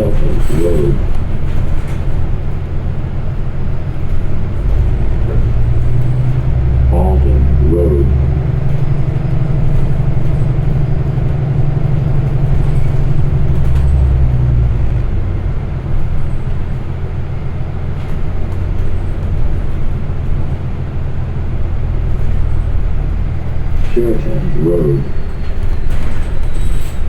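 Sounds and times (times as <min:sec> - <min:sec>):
bus engine running: 0:00.0 - 0:27.0
road noise: 0:00.0 - 0:27.0.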